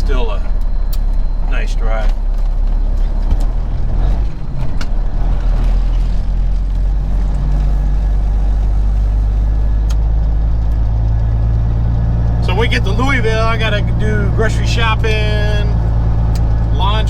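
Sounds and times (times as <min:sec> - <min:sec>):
diesel engine droning: 0:00.0 - 0:17.0
road noise: 0:00.0 - 0:17.0.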